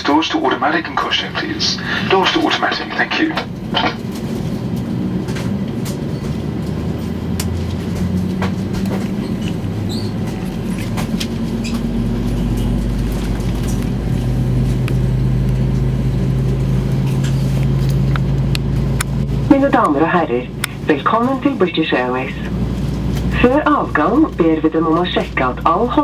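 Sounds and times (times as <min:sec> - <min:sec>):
airplane cabin drone: 0:00.0 - 0:26.0
low hum tones: 0:00.0 - 0:26.0.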